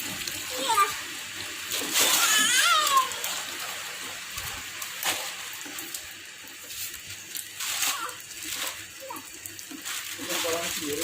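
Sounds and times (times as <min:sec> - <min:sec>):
rain and running water: 0:00.0 - 0:11.0.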